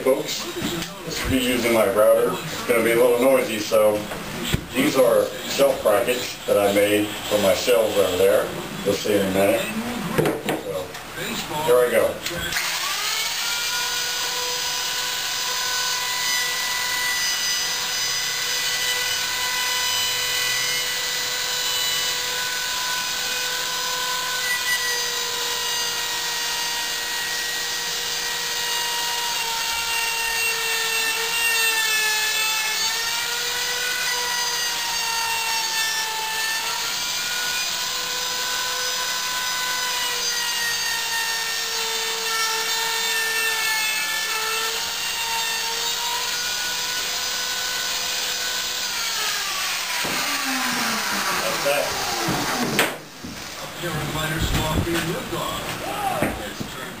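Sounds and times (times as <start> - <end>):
electric router whining: 0.0 - 57.0.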